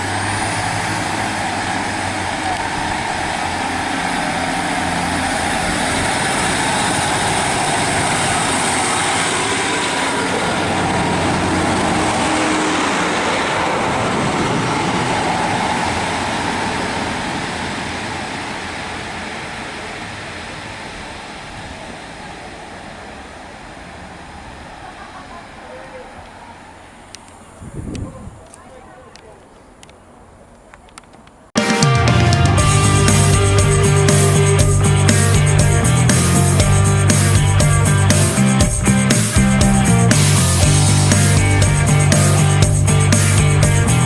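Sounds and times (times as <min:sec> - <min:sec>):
train passing: 0:00.0 - 0:27.6, 0:31.6 - 0:44.0.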